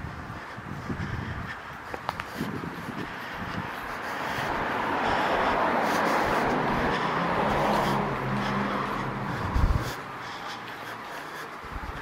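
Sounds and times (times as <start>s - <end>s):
motor vehicle passing: 0.3s - 12.0s.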